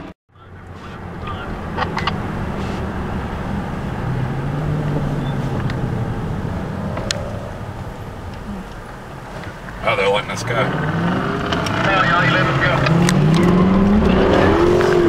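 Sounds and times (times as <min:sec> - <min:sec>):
car engine drone: 0:00.0 - 0:15.0
road noise: 0:00.0 - 0:15.0.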